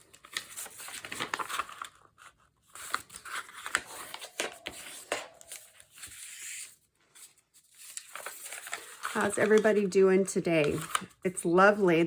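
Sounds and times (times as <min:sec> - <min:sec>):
paper rustling and scraping: 0:00.0 - 0:09.9.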